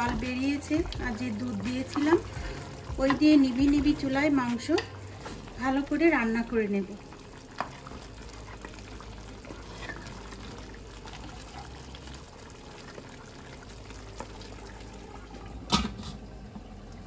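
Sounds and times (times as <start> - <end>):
meat simmering softly bubbling: 0.0 - 17.0.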